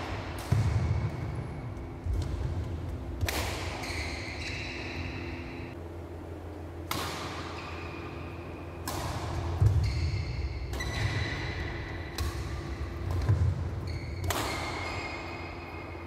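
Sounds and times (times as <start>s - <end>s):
rackets striking shuttlecock: 0.0s - 5.7s, 6.8s - 16.0s.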